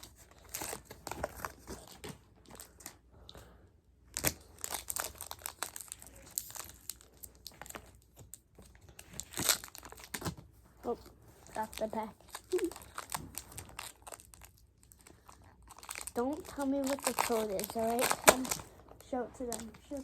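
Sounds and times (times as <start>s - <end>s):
foil wrapper crinkling and tearing: 0.0s - 3.0s, 4.1s - 20.0s.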